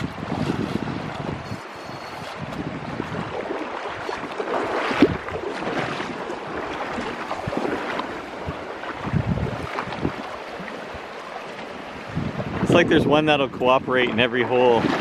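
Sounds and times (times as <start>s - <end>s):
river water over stones: 0.0s - 15.0s
water splashes: 0.0s - 15.0s
wind buffeting microphone: 0.0s - 15.0s.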